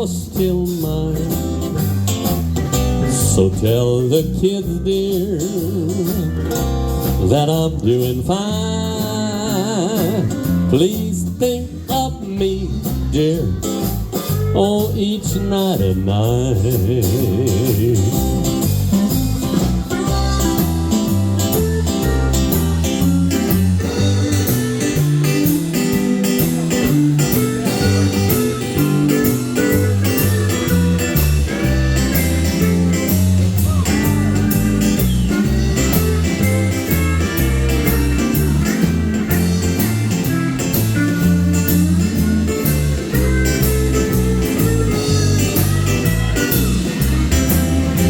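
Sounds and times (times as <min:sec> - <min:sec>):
bass: 0:00.0 - 0:48.0
lead guitar melody: 0:00.0 - 0:48.0
steady drum beat: 0:00.0 - 0:48.0.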